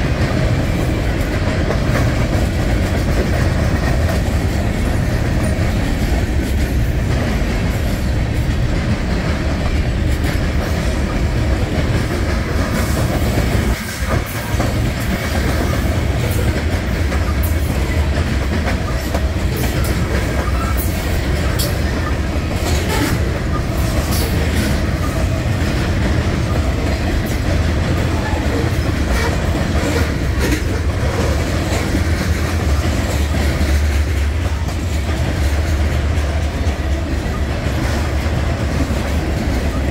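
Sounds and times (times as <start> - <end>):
freight train wheels rumbling: 0.0 - 39.9
wheels clacking over rail joints: 0.0 - 39.9.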